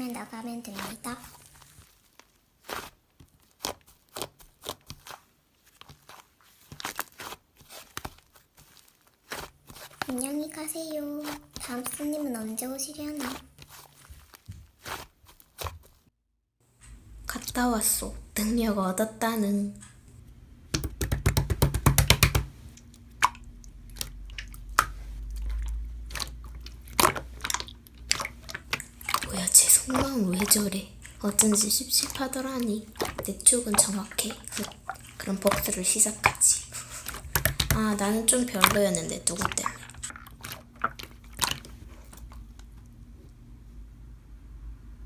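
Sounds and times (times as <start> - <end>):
slime crackling and popping: 0.4 - 16.0, 20.7 - 43.0.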